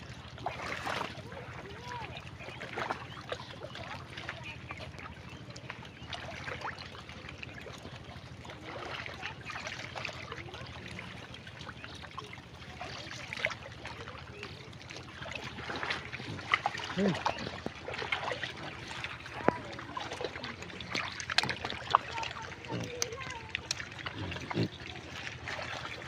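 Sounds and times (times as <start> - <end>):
pigs squelching in wet mud: 0.0 - 26.0.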